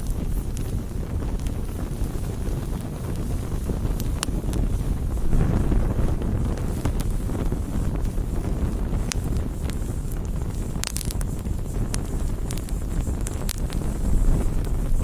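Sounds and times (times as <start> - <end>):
fire crackling and popping: 0.0 - 15.0
flames rumbling: 0.0 - 15.0.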